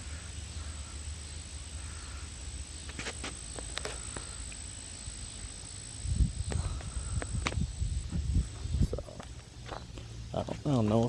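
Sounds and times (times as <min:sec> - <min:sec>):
high-pitched insect drone: 0:00.0 - 0:10.5.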